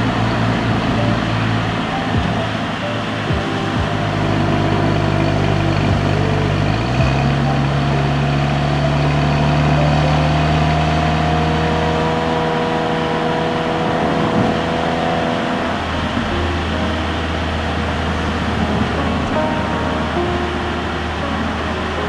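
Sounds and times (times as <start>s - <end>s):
car engine pulling steadily: 0.0s - 21.7s.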